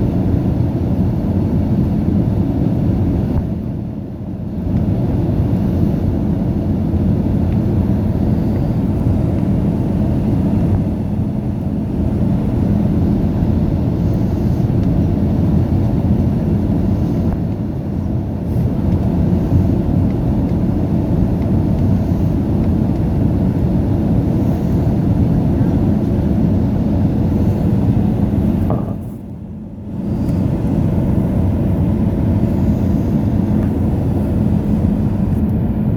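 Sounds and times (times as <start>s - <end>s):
airliner engines rumbling in cabin: 0.0s - 35.9s.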